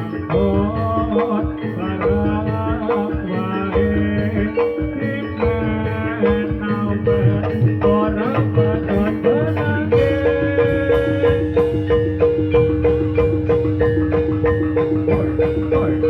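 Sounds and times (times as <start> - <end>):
drum strokes: 0.0 - 16.0
metallophones ringing: 0.0 - 16.0.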